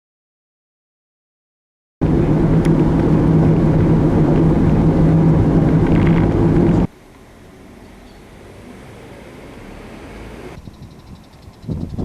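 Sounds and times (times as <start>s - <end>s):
engine humming steadily: 2.0s - 12.0s.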